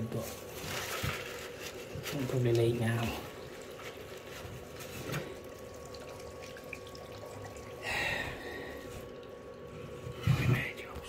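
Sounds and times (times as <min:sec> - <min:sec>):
water trickling through pipe: 0:00.5 - 0:11.0.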